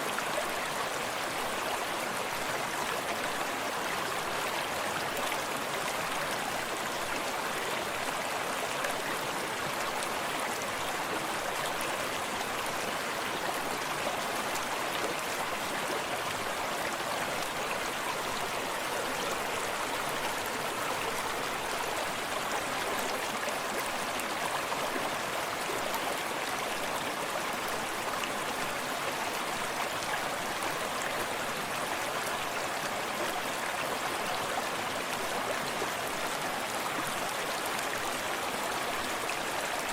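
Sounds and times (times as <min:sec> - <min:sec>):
stream trickling over stones: 0:05.0 - 0:39.9.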